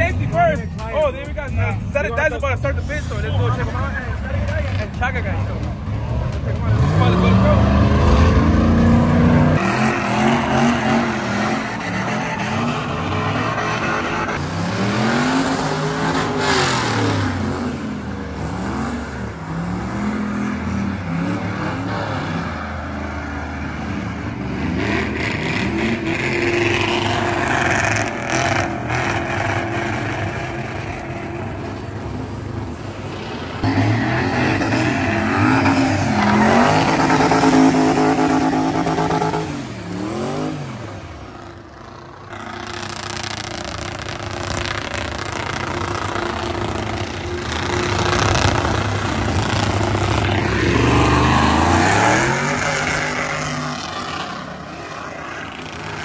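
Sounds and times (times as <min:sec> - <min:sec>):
tires spinning: 0:00.0 - 0:56.0
truck engines revving: 0:00.0 - 0:56.0.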